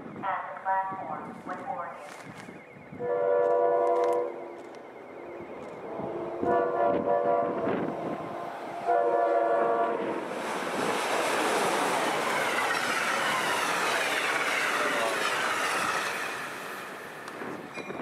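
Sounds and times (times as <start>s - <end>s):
train passing at speed: 3.0s - 18.0s.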